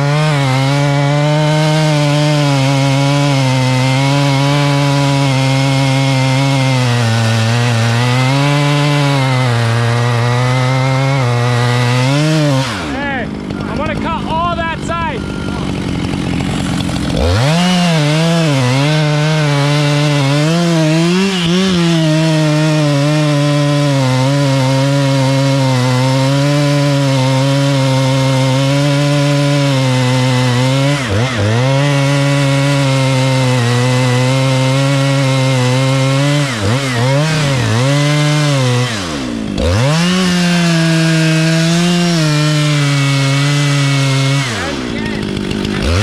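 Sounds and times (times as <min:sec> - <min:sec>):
chainsaw cutting a tree: 0:00.0 - 0:46.0.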